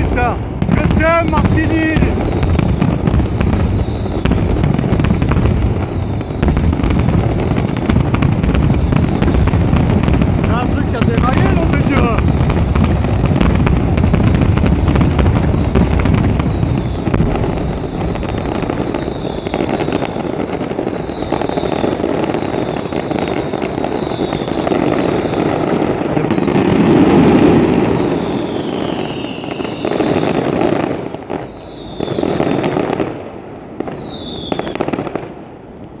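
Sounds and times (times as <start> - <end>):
falling firework whistles: 0.0 - 36.0
fireworks crackling and booming: 0.0 - 36.0.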